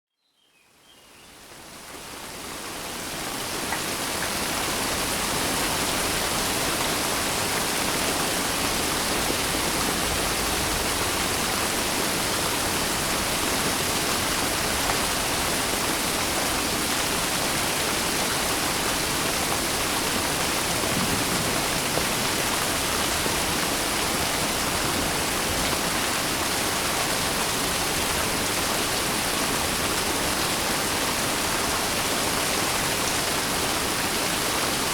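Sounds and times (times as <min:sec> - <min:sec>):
steady rain hissing: 0:01.0 - 0:34.9.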